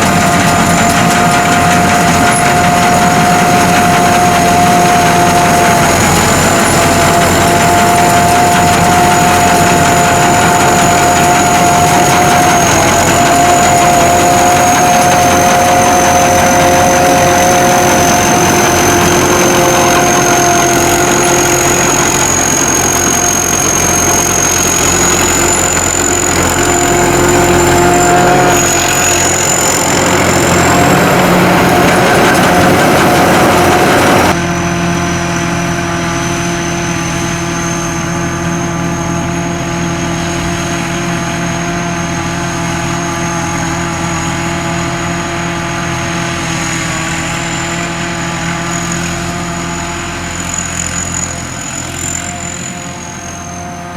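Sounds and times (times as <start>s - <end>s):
combine harvester whining: 0.0s - 53.9s.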